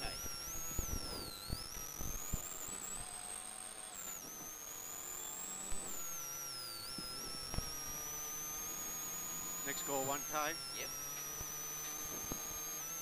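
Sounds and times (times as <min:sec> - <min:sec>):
crackle clicks: 0:00.0 - 0:13.0
high whines sliding in pitch: 0:00.0 - 0:13.0
steady electrical hum: 0:00.0 - 0:13.0.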